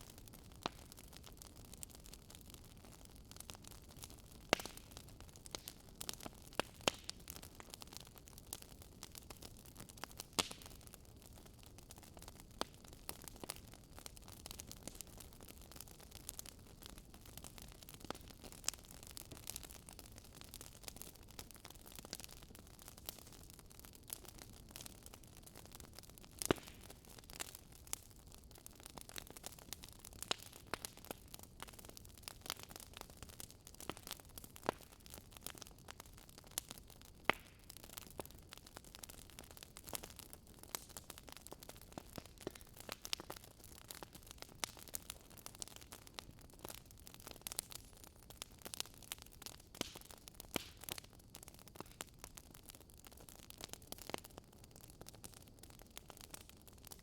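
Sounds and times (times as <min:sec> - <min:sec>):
fireplace crackling: 0:00.1 - 0:54.2.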